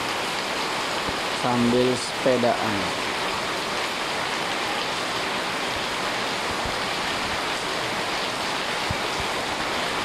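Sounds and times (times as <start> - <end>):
heavy rain hissing: 0.0 - 10.0.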